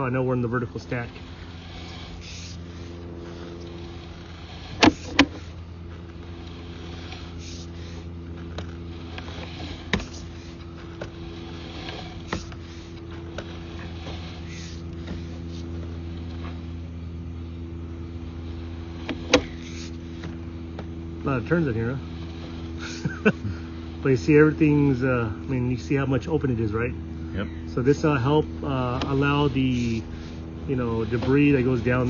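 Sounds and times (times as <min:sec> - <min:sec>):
machine humming: 0:00.0 - 0:32.0.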